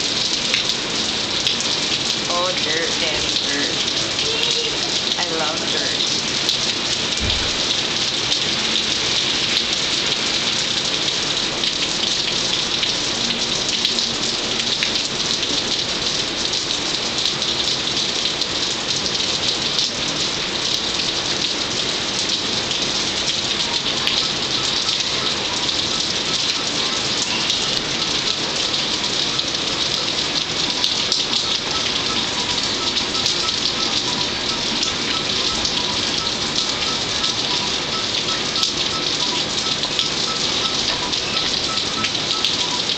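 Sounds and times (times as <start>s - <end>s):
steady rain hissing: 0.0s - 42.9s.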